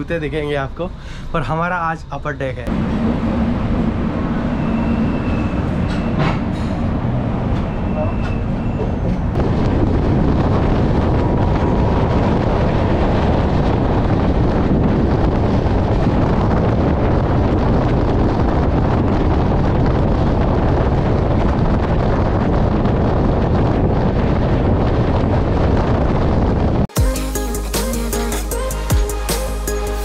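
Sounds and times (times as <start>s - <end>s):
train running rumble: 0.0s - 29.2s
wind rushing over microphone: 1.7s - 27.0s.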